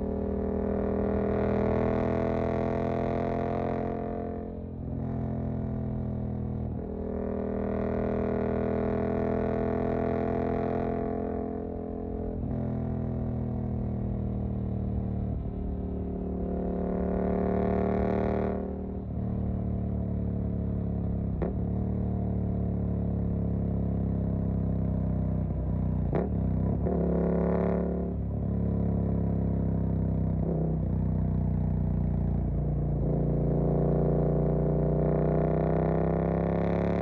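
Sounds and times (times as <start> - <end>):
motorcycle engine at road speed: 0.0 - 37.0.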